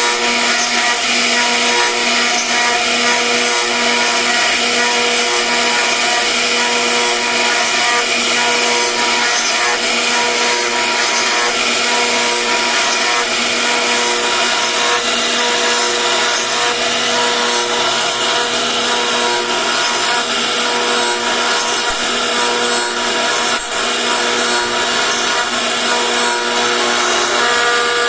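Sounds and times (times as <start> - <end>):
bit carving wood: 0.0 - 28.0
router spindle whining: 0.0 - 28.0.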